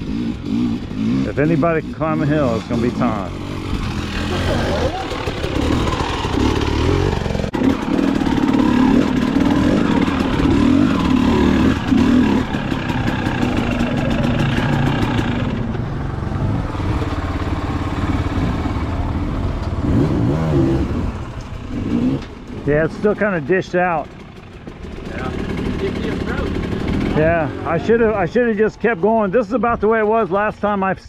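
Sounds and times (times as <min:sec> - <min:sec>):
dirt bike engine revving: 0:00.0 - 0:30.4.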